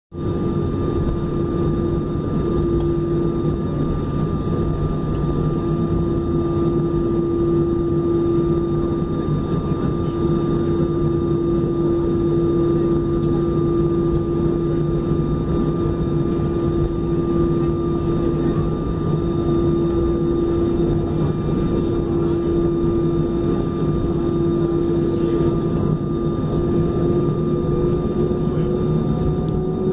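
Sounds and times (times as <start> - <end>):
jet engines rumbling with whine: 0.1 - 29.9.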